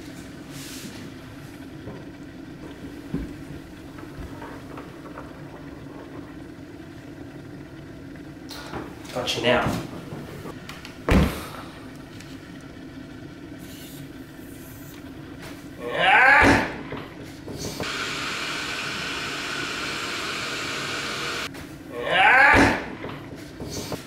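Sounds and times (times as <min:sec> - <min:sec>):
electric kettle hissing: 0:00.0 - 0:15.8, 0:17.3 - 0:21.5.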